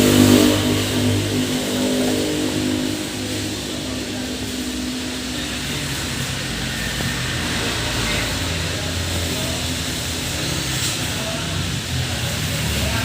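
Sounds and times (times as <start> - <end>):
air hissing from vents: 0.0 - 13.0
bus diesel engine running: 0.0 - 13.0.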